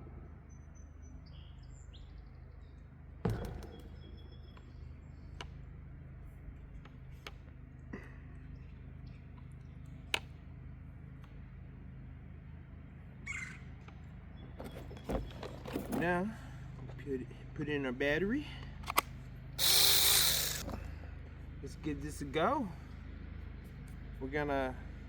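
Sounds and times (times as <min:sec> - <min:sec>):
birds chirping: 0:00.0 - 0:24.2
steady low hum: 0:00.0 - 0:25.0.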